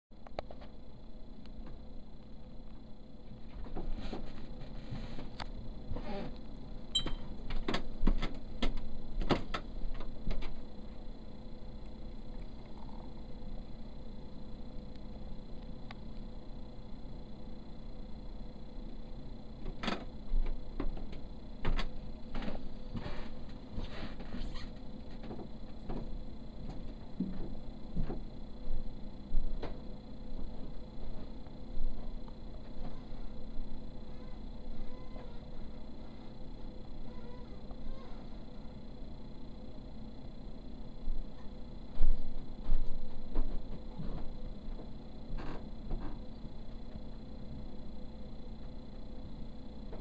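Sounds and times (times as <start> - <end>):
faint steady hum: 0.1 - 50.0.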